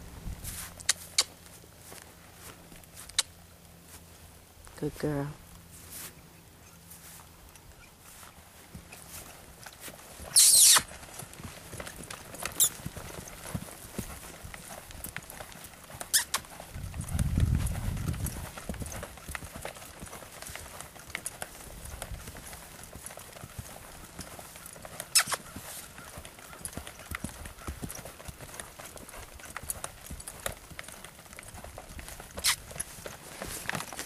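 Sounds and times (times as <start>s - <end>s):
hoofbeats on dirt: 0.0s - 34.0s.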